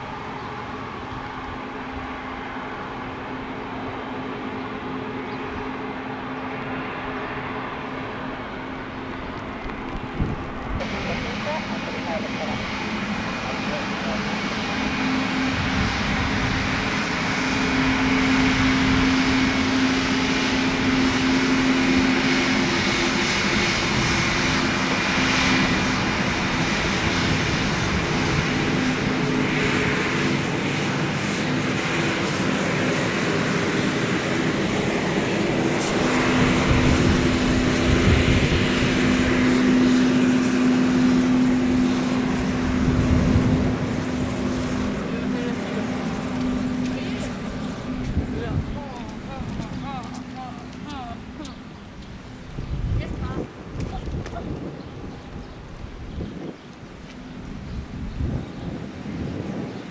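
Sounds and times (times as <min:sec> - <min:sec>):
jet engines taxiing: 0:00.0 - 0:59.9.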